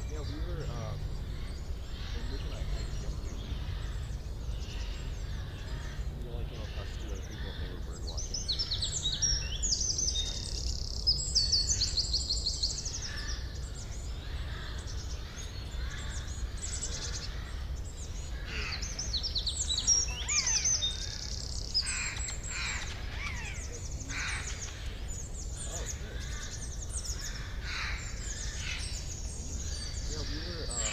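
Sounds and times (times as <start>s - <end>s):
songbirds chirping and trilling: 0.0s - 30.9s.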